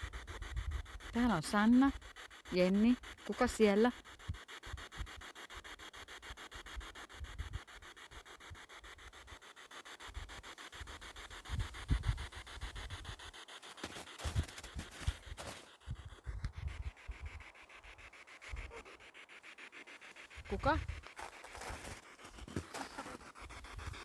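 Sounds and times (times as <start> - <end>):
rapid even ticking: 0.0 - 24.0.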